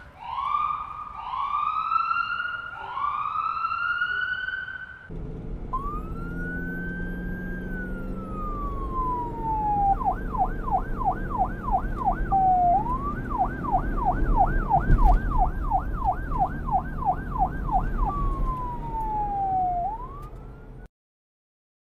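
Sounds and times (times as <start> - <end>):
electronic police siren: 0.0 - 5.1, 5.7 - 20.9.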